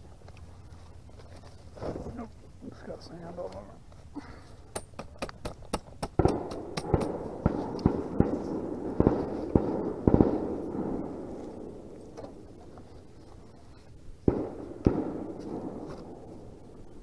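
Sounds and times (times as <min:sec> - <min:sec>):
crackling rustle: 0:00.0 - 0:04.7, 0:06.2 - 0:17.0.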